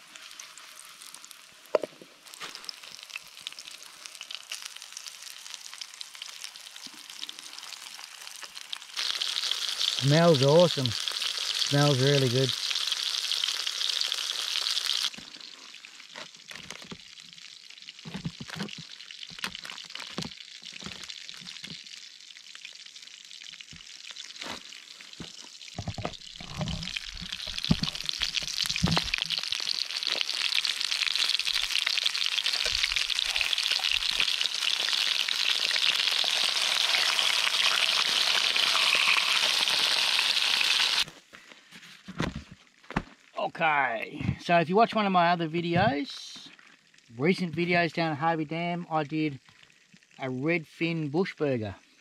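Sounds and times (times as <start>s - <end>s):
fish frying in hot oil: 0.0s - 41.1s, 46.4s - 47.1s, 49.4s - 50.2s.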